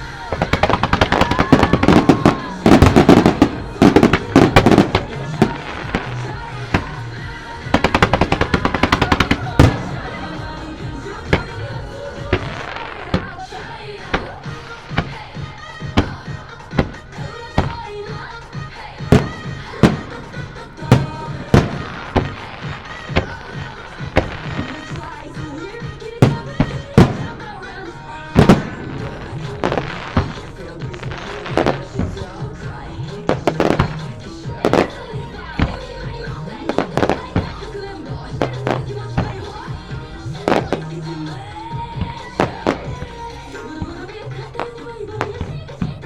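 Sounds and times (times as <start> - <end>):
fireworks bangs and crackles: 0.0 - 46.0
music playing: 0.0 - 46.0.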